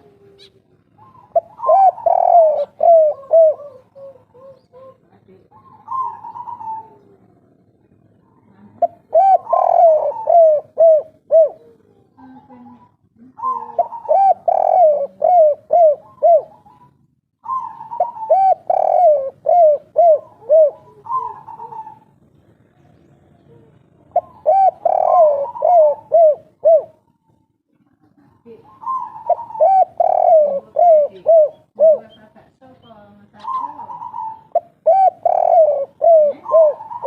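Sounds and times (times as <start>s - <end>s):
dove cooing: 0.0s - 27.4s, 28.4s - 32.5s, 33.2s - 37.0s.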